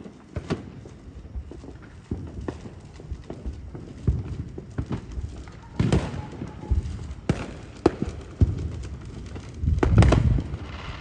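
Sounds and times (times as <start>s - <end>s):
fireworks booms and pops: 0.0s - 11.0s
fireworks crackling: 0.0s - 11.0s.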